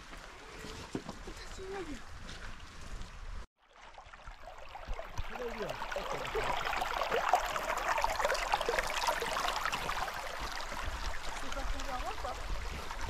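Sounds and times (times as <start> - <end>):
river running and gurgling: 1.4 - 13.0.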